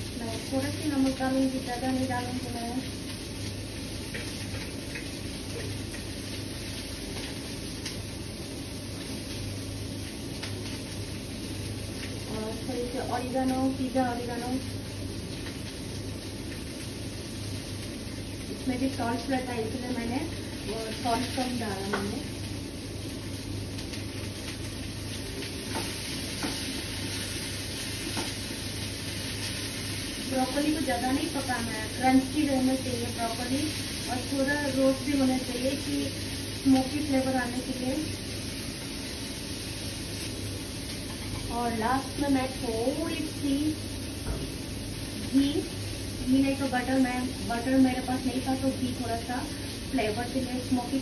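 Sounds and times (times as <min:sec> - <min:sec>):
vegetables sizzling in a pan: 0:00.0 - 0:51.0.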